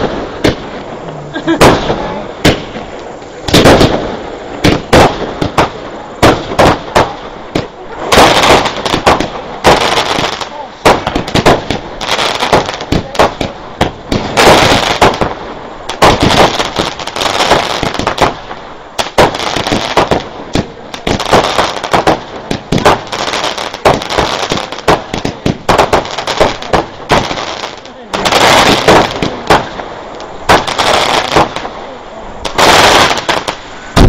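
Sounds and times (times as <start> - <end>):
fireworks bangs and pops: 0.0 - 34.0
fireworks crackling: 0.0 - 34.0.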